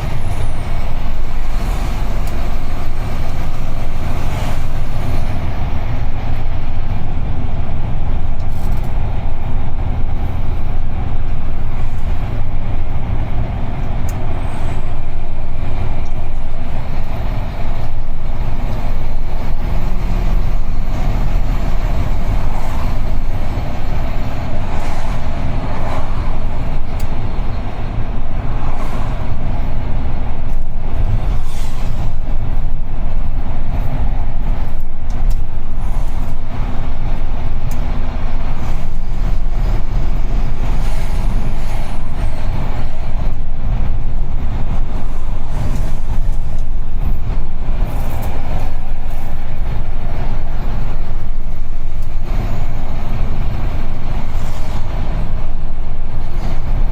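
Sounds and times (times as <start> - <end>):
heavy truck engine rumble: 0.0 - 56.9.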